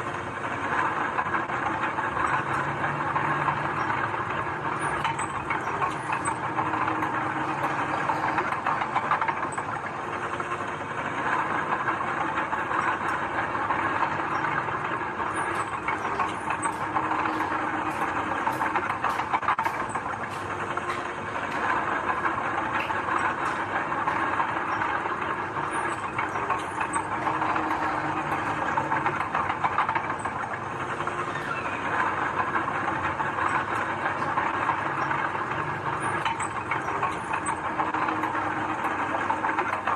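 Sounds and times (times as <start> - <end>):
heavy diesel machinery running: 0.0 - 39.9
metallic clanks and rattles: 2.3 - 10.0, 12.4 - 39.9.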